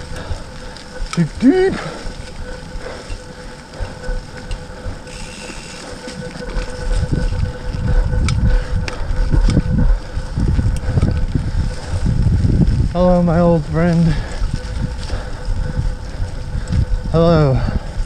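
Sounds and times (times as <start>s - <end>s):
faint steady whine: 0.0s - 18.0s
wind and jolts on microphone: 0.0s - 18.0s.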